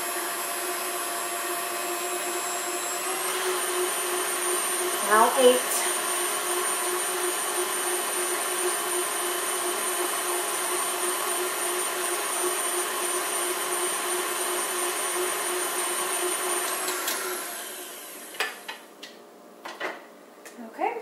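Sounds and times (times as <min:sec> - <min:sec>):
stand mixer motor whining: 0:00.0 - 0:18.8.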